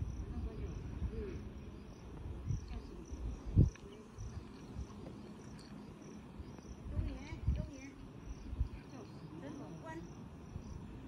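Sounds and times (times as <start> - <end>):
insects chirping: 0.0 - 11.0
low wind rumble on microphone: 0.0 - 11.0.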